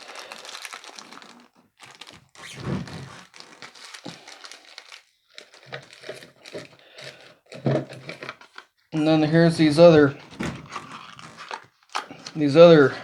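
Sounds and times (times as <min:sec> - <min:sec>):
packaging crinkling and rustling: 0:00.0 - 0:08.7, 0:10.0 - 0:12.8.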